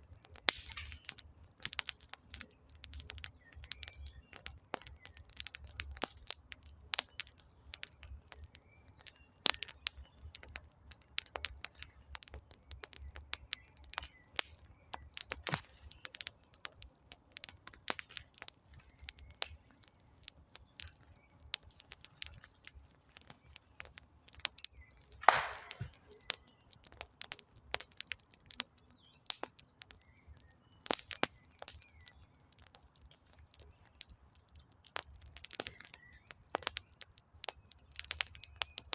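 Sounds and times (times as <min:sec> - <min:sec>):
campfire crackling and popping: 0:00.0 - 0:38.9
loud fire crack: 0:00.0 - 0:38.9.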